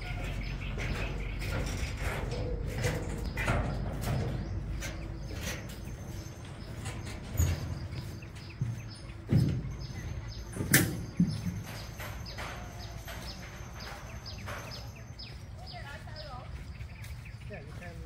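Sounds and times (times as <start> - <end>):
birds chirping: 0.0 - 18.0
footsteps on footbridge: 0.0 - 18.0.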